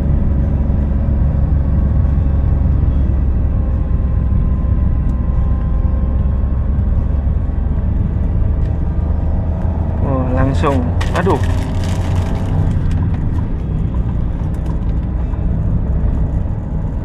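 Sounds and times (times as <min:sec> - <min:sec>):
car engine running under load: 0:00.0 - 0:17.0
tyre and road rumble: 0:00.0 - 0:17.0.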